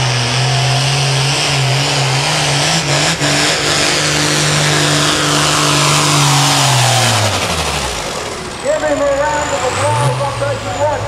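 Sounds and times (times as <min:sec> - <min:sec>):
tractor engine running hard: 0:00.0 - 0:11.0.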